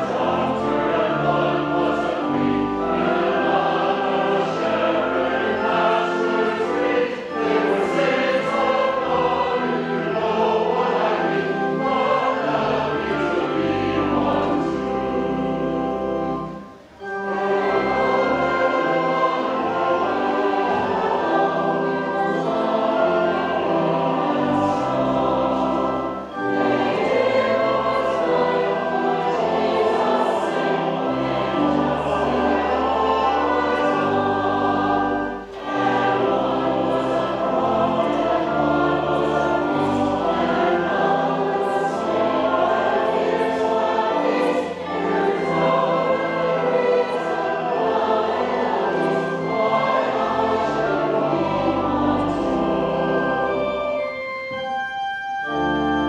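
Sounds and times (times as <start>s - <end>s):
choir singing: 0.0s - 56.0s
instrumental accompaniment: 0.0s - 56.0s.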